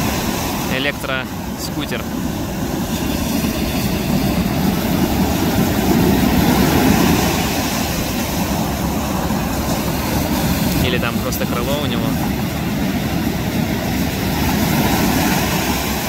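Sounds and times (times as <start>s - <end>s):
sea surf breaking: 0.0s - 16.0s.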